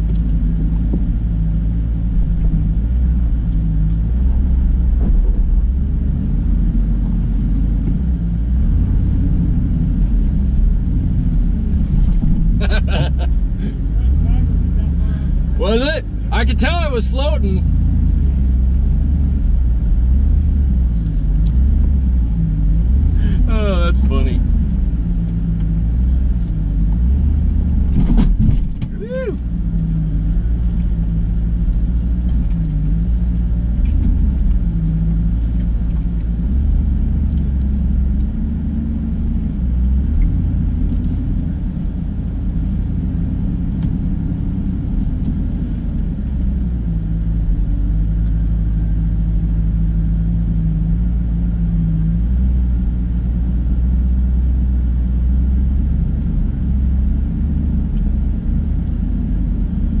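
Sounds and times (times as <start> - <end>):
truck engine at low revs: 0.0 - 60.0.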